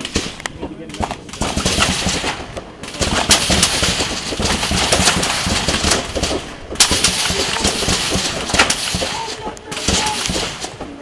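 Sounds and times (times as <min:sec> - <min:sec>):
rifle fire cracks: 0:00.0 - 0:11.0.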